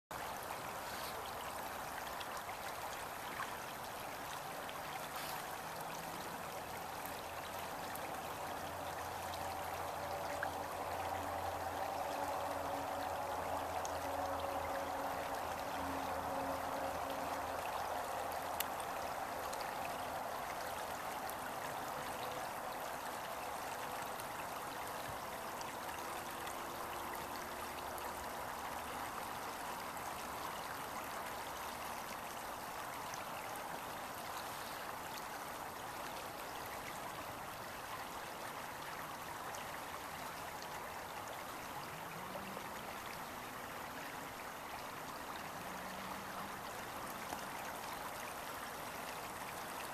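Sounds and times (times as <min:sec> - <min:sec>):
stream water flowing: 0:00.1 - 0:49.9.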